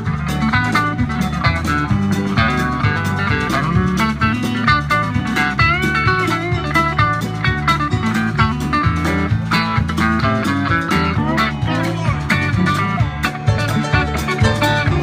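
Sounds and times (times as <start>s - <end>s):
bass line: 0.0s - 15.0s
drums: 0.0s - 15.0s
electric guitar lead: 0.0s - 15.0s.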